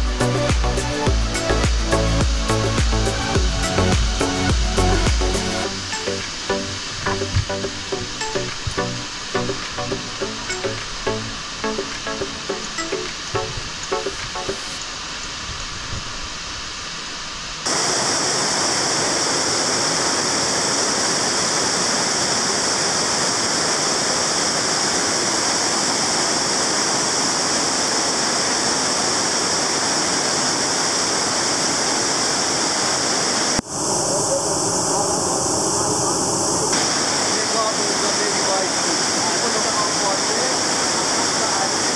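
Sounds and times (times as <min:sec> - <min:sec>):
waterfall roaring: 0:00.0 - 0:41.9.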